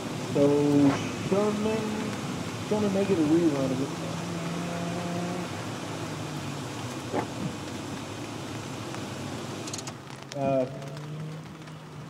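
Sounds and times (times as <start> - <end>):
rain hissing on car: 0.0 - 12.0.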